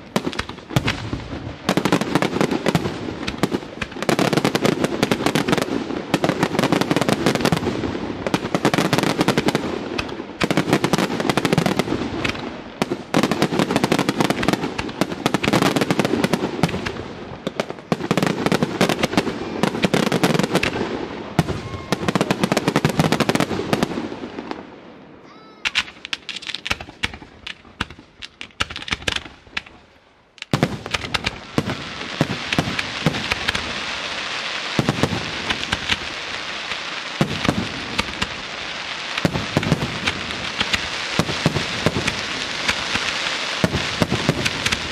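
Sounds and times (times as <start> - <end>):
fireworks bangs: 0.0 - 44.9
fireworks crackling: 0.0 - 44.9.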